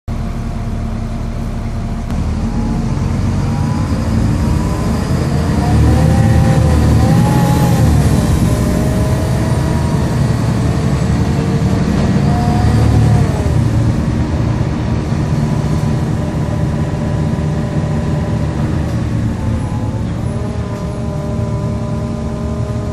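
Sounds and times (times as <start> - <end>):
bus diesel engine pulling away: 0.1 - 22.9
gearbox whine: 1.9 - 22.9.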